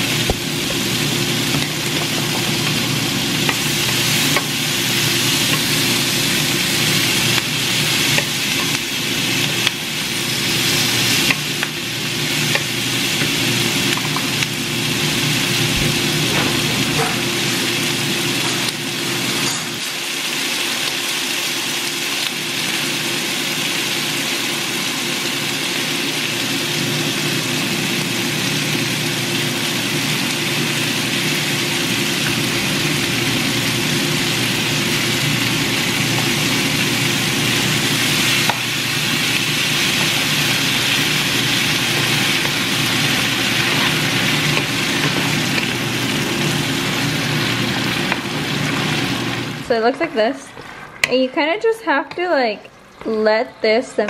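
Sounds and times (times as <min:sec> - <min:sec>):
food sizzling in a frying pan: 0:00.0 - 0:51.7.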